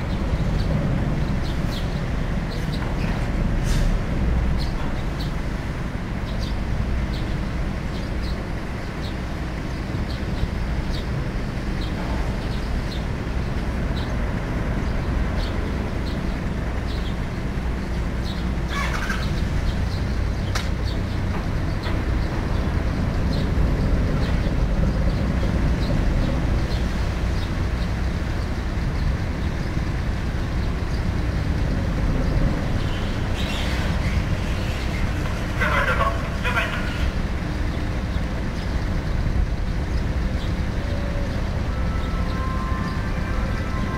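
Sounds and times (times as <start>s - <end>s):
ship engines low rumble: 0.0s - 43.9s.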